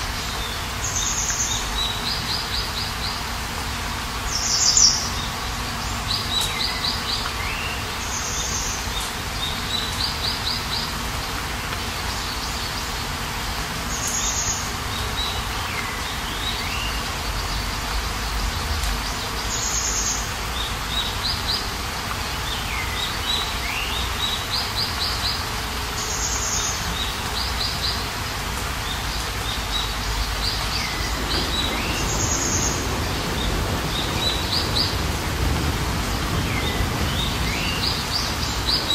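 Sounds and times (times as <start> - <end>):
hailstorm downpour hiss: 0.0 - 38.9
songbird singing: 0.0 - 38.9.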